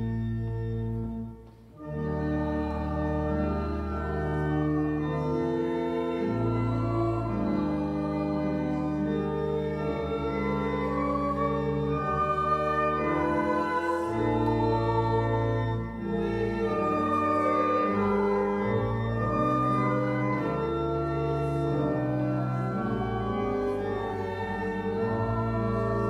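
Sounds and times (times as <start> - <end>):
church organ chords: 0.0 - 26.0.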